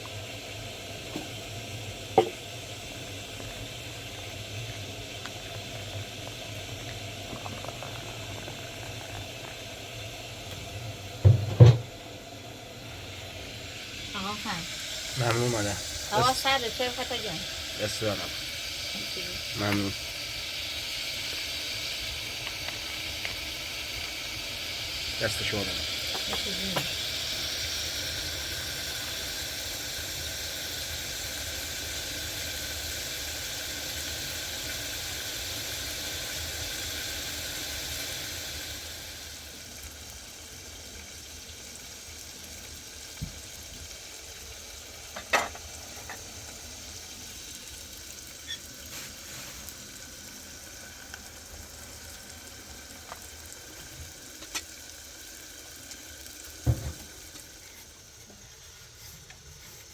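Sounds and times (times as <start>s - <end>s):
sizzling hiss: 0.0s - 59.9s.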